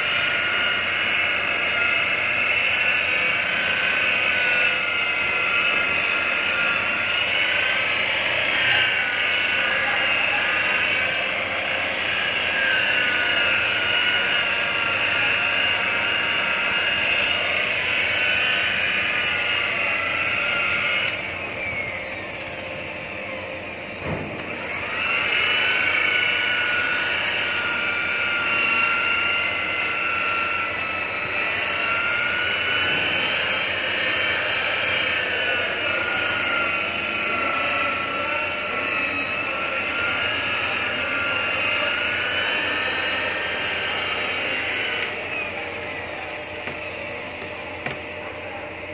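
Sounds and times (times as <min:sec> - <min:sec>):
electric polisher motor whining: 0:00.0 - 0:48.9.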